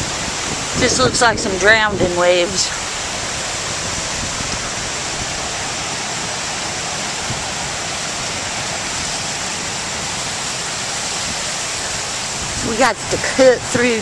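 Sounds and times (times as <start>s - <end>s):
storm wind: 0.0s - 14.0s
surf breaking on beach: 0.0s - 14.0s.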